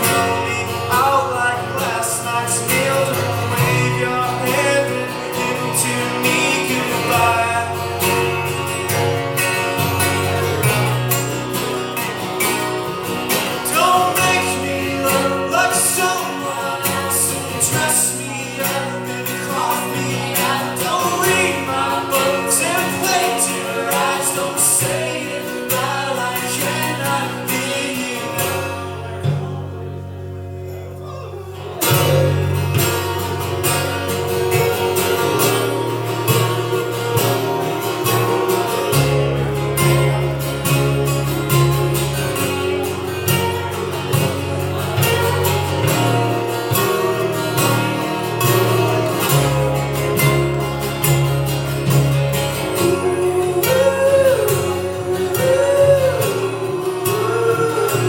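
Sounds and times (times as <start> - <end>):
man singing: 0.0 - 9.2, 10.0 - 51.1, 51.8 - 58.0
guitar strummed and plucked: 0.0 - 58.0.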